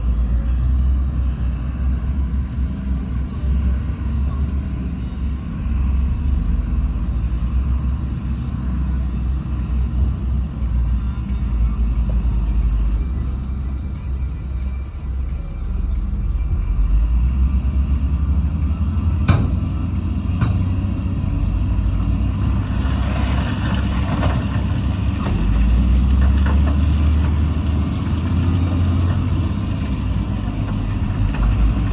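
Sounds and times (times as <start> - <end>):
heavy machinery diesel engine rumble: 0.0 - 31.9.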